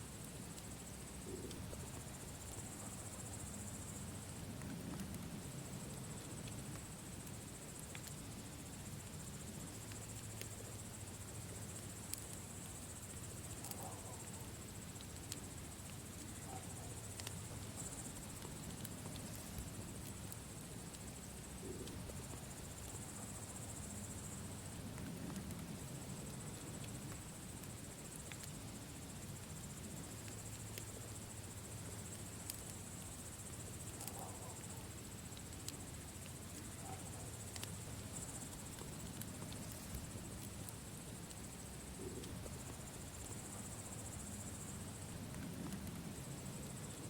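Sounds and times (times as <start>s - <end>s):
campfire crackling: 0.0s - 47.0s
crickets chirring: 0.0s - 47.0s.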